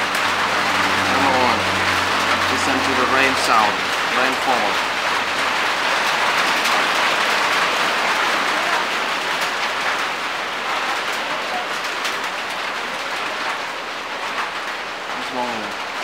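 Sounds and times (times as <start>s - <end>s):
rain falling: 0.0s - 16.0s
raindrop ticks: 1.8s - 16.0s.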